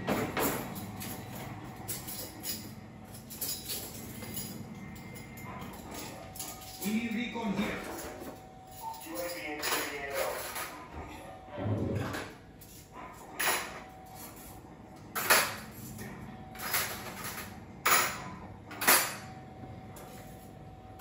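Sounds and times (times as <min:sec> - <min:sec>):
kitchen utensils clattering: 0:00.0 - 0:21.0.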